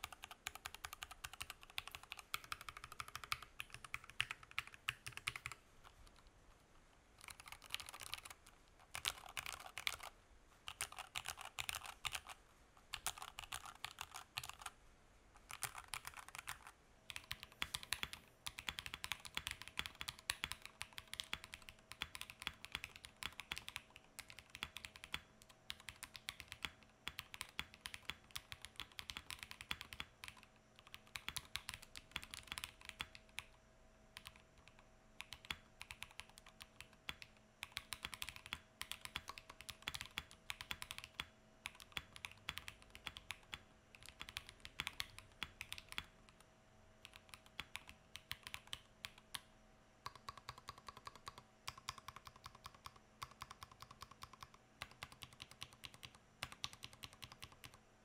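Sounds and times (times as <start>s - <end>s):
mechanical keyboard typing: 0.0s - 6.2s, 7.2s - 10.1s, 10.7s - 14.8s, 15.4s - 33.6s, 34.2s - 46.4s, 47.0s - 57.8s.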